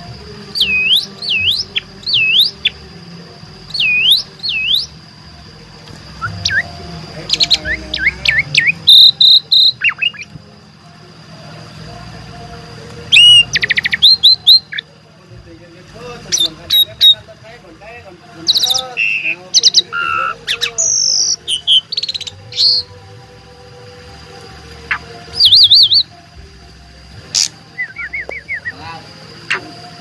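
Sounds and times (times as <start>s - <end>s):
starling singing: 0.0s - 30.0s
steady high-pitched tone: 0.0s - 30.0s.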